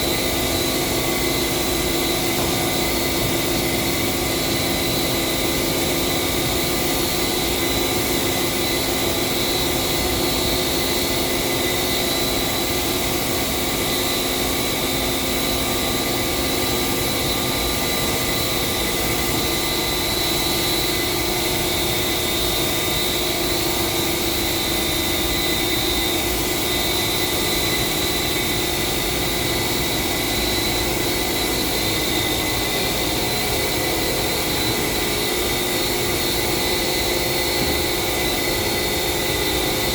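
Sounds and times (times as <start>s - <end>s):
machine whine: 0.0s - 39.9s.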